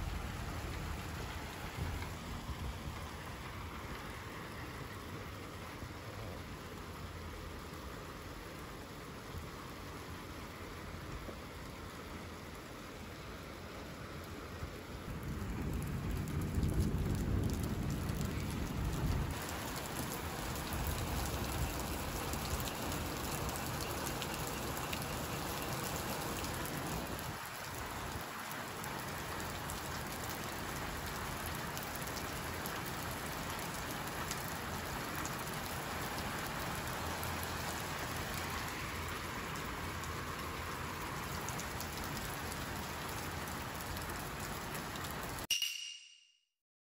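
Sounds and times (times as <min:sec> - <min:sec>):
heavy rain hissing: 0:00.0 - 0:45.5.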